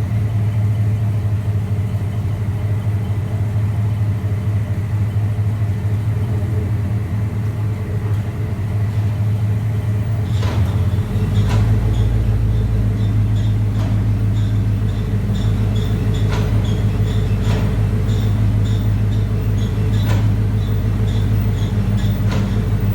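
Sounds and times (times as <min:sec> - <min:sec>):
deep engine rumble: 0:00.0 - 0:22.9
truck engine humming: 0:00.0 - 0:22.9.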